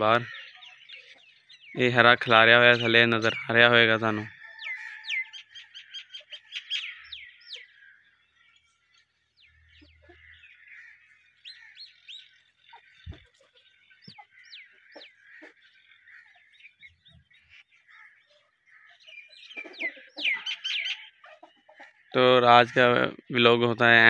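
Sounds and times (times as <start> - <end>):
background birdsong: 0.0 - 24.0
small birds chirping: 0.0 - 24.0.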